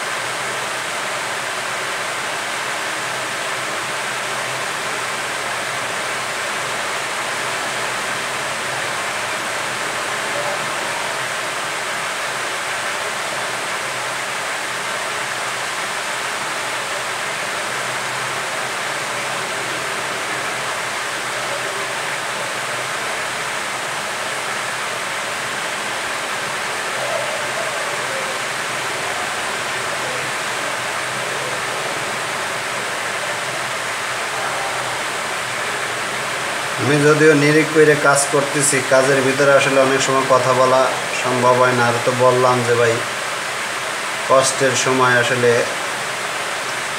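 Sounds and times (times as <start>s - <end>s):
hot air station hissing: 0.0s - 46.9s.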